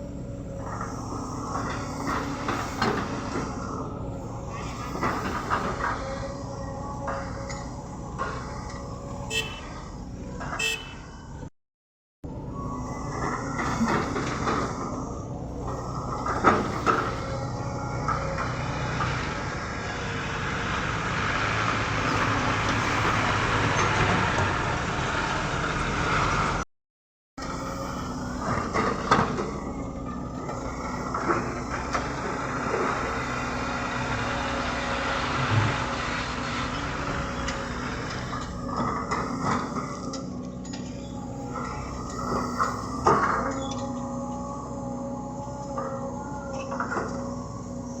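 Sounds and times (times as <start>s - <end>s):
excavator diesel engine running: 0.0s - 11.5s, 12.3s - 26.6s, 27.4s - 48.0s.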